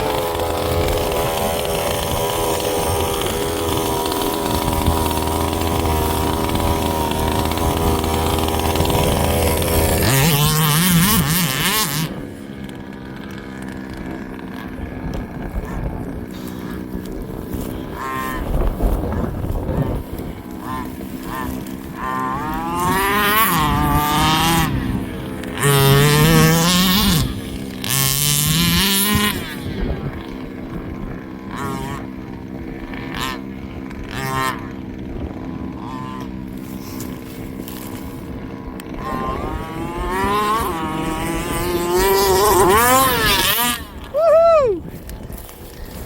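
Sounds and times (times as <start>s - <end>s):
rc car engines revving: 0.0s - 46.0s.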